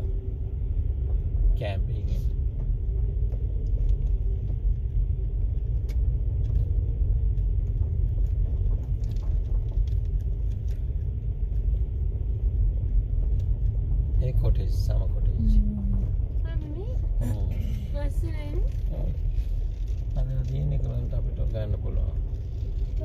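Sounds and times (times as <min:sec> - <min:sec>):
vehicle rumble from inside cabin: 0:00.0 - 0:23.0.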